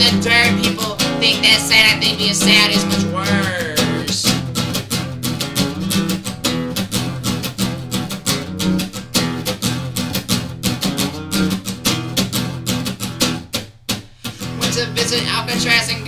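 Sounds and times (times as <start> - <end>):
guitar strummed: 0.0 - 16.0.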